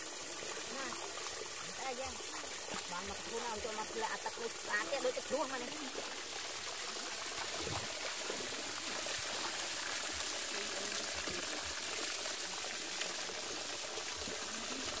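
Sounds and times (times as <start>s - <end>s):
water stream splashing onto mud: 0.0s - 15.0s.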